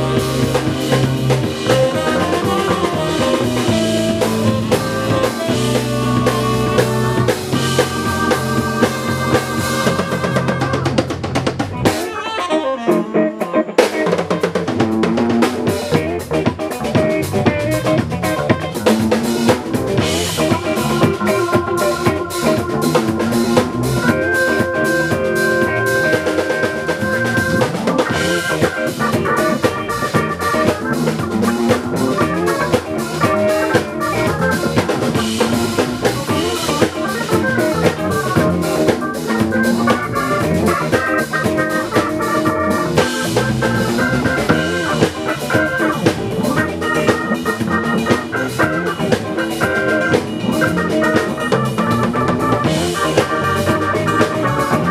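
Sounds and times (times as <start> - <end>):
drum kit beat: 0.0 - 54.9
live band playing: 0.0 - 54.9.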